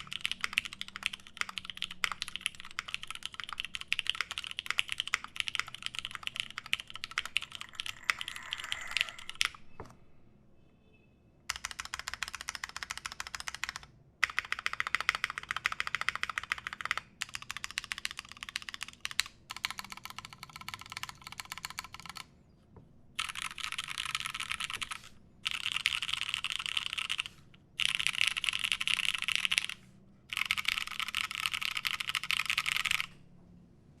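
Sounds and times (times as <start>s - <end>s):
mechanical keyboard typing: 0.0s - 9.6s, 11.5s - 22.3s, 23.2s - 33.2s.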